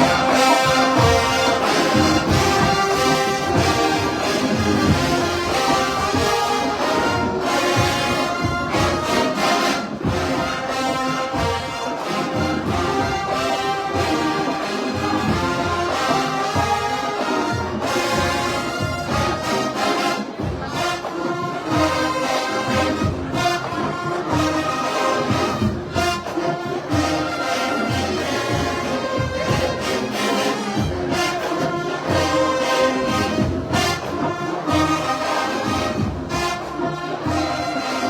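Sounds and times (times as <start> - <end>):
marching band brass: 0.0 - 38.0
steady drum beat: 0.0 - 38.0.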